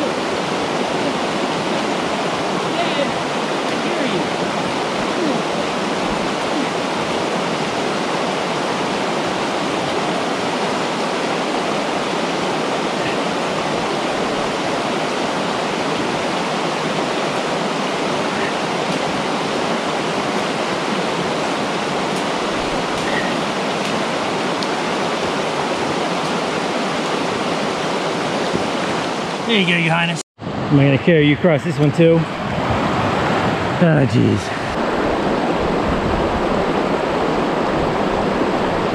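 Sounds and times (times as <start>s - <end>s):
stream rushing over rocks: 0.0s - 30.8s, 31.8s - 38.9s.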